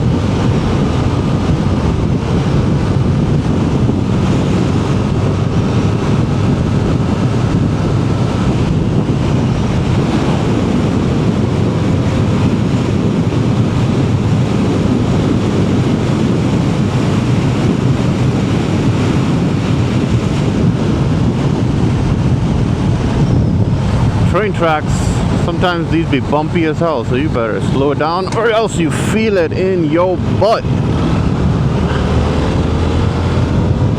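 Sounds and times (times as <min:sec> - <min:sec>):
motorcycle engine running: 0:00.0 - 0:33.9
wind rushing over microphone: 0:00.0 - 0:33.9.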